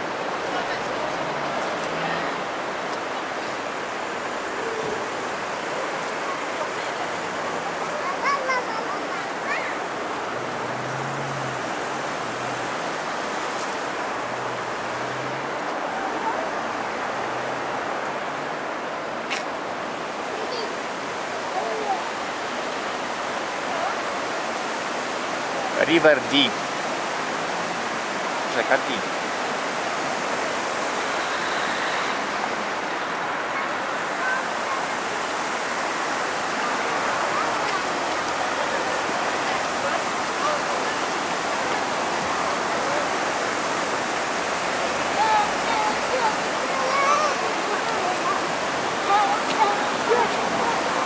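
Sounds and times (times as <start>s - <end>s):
passing traffic hum: 0.0s - 51.0s
river rushing over rapids: 0.0s - 51.0s.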